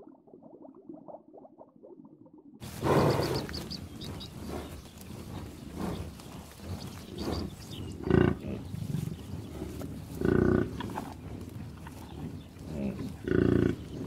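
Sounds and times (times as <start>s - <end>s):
bison grunting bellows: 2.6s - 14.0s.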